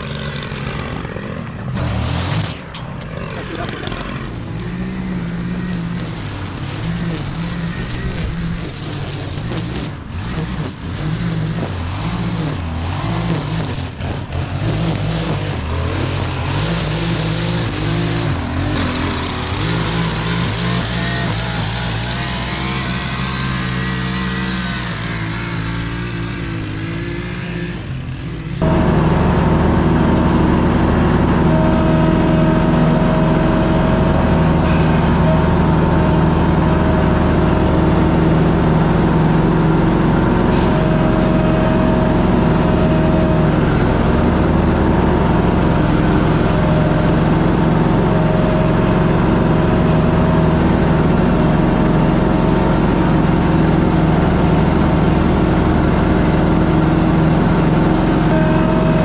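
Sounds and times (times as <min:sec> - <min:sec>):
lawn mower engine running: 0:00.0 - 0:59.0
string trimmer engine running: 0:00.0 - 0:59.0.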